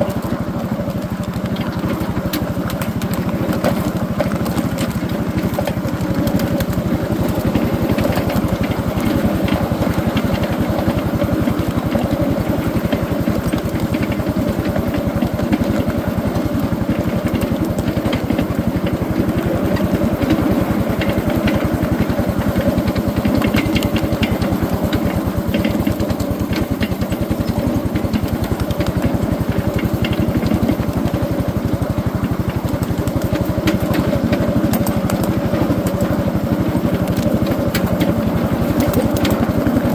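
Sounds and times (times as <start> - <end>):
small locomotive engine running: 0.0 - 39.9.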